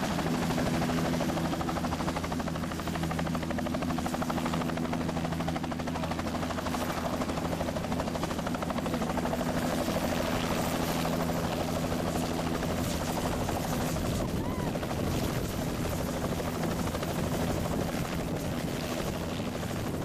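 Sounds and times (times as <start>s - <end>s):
helicopter rotor blade chop: 0.0s - 20.0s.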